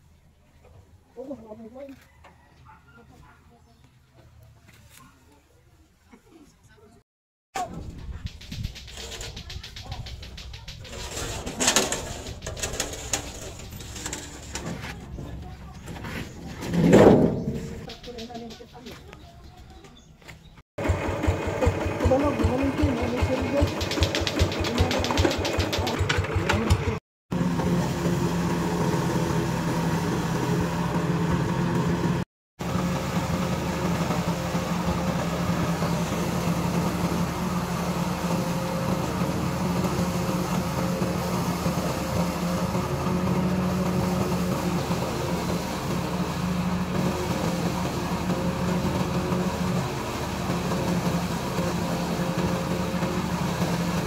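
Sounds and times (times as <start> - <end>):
engine driving corn sheller: 7.6 - 19.2, 20.8 - 54.0
hand tractor engine running: 7.6 - 19.2, 20.8 - 31.9, 32.6 - 54.0.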